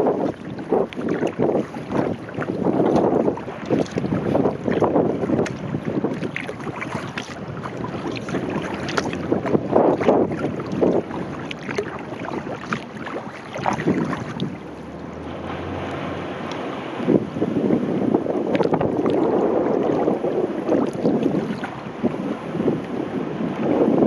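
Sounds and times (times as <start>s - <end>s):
paddle splashing into water: 0.0s - 17.2s, 18.2s - 22.6s
water washing along hull: 0.0s - 24.0s
wind buffeting microphone: 0.0s - 24.0s.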